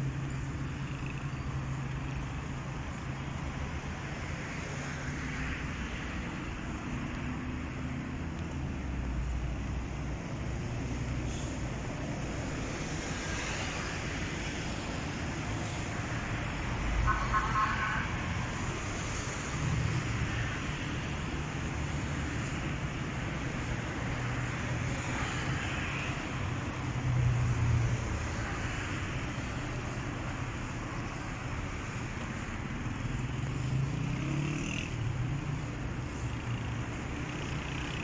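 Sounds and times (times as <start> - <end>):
cars passing close: 0.0 - 38.0
road traffic rumble: 0.0 - 38.0.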